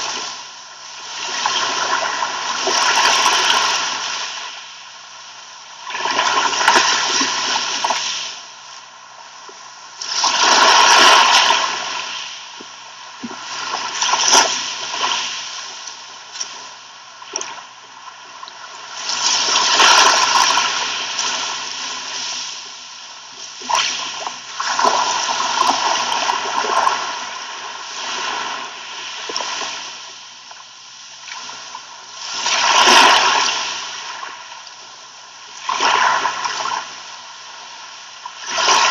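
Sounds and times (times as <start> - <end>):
sea waves washing onto beach: 0.0 - 4.8, 10.0 - 12.5, 13.1 - 30.3, 31.2 - 34.8, 35.5 - 38.9.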